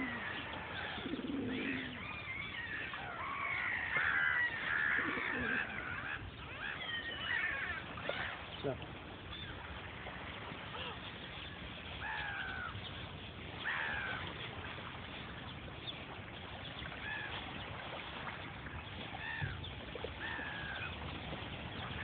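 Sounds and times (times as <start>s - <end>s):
gulls calling: 0.0s - 22.0s.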